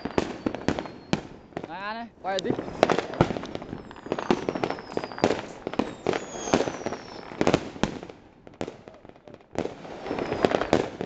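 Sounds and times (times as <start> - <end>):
firecrackers banging and crackling: 0.0 - 11.0
fireworks whistling: 0.0 - 11.0.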